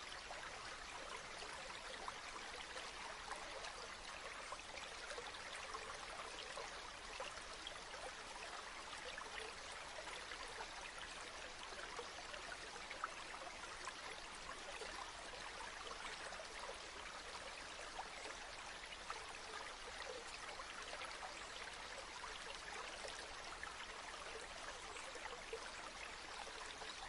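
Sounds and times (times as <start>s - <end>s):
river water babbling: 0.0s - 27.0s.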